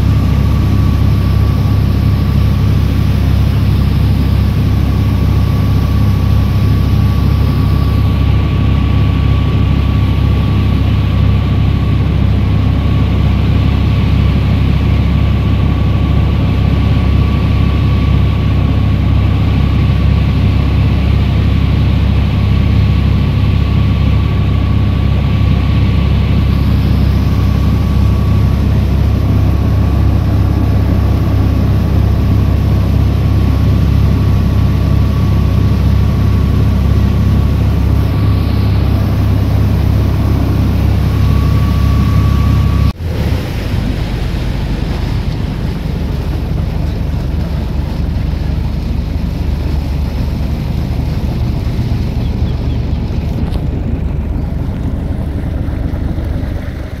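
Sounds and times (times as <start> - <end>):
boat engine drone: 0.0 - 57.0
thin steady whine: 0.0 - 57.0.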